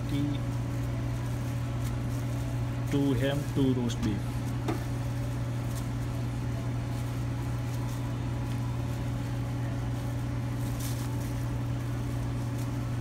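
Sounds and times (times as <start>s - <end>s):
gloved hands rustling paper: 0.0s - 13.0s
refrigerated counter humming: 0.0s - 13.0s.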